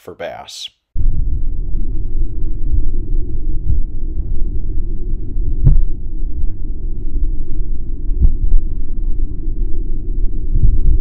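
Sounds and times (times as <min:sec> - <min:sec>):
muffled underwater rumble: 0:01.0 - 0:11.0.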